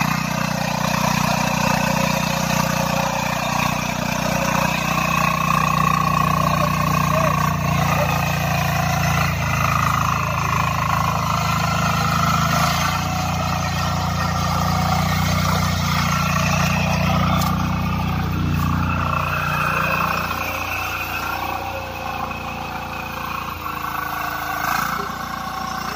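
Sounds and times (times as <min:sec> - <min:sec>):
power weeder diesel engine running: 0:00.0 - 0:25.9.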